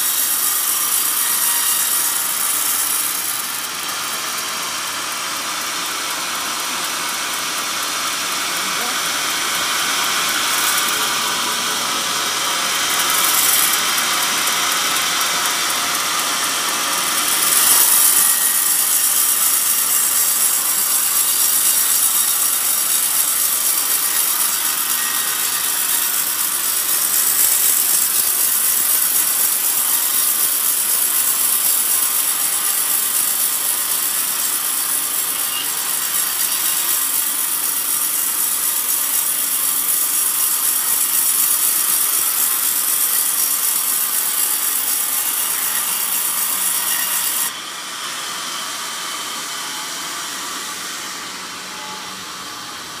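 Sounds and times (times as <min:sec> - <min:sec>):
band saw cutting log: 0:00.0 - 0:53.0.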